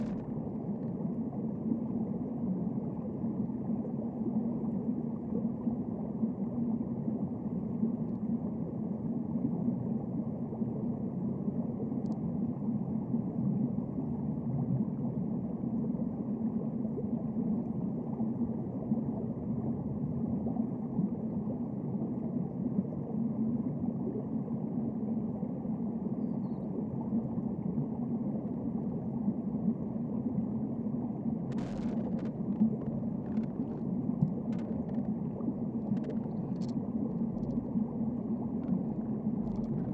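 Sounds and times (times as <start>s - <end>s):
underwater rumble: 0.0s - 39.9s.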